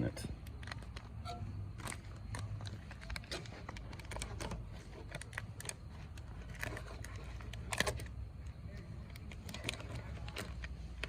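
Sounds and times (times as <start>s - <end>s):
plastic packaging crinkling: 0.4s - 11.0s.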